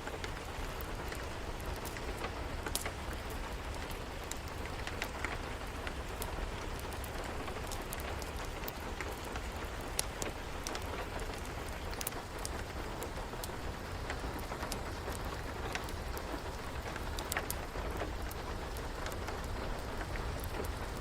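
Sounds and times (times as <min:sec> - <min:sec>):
rain hiss: 0:00.0 - 0:21.0
wood fire crackling: 0:00.0 - 0:21.0.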